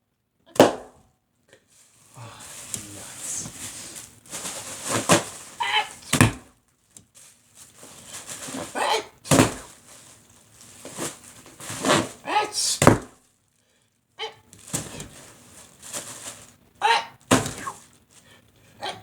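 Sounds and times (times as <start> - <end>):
bags popping: 0.5 - 1.0, 1.9 - 13.3, 14.5 - 18.4
bags crinkling: 1.7 - 13.6, 14.5 - 18.6.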